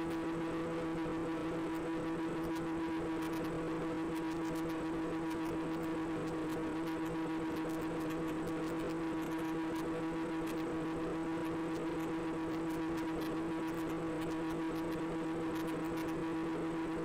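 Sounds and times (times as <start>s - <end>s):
electric motor and propeller hum: 0.0s - 17.0s
faint crackles: 0.0s - 17.0s.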